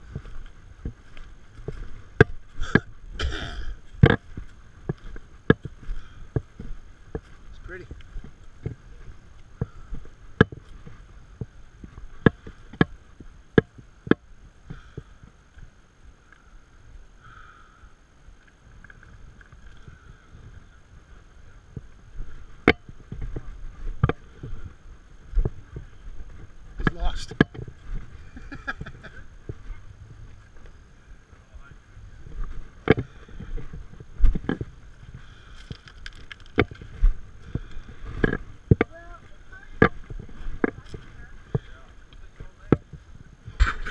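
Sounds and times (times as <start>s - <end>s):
footsteps on loose rocks: 0.0s - 13.8s, 18.8s - 30.9s, 31.6s - 43.9s.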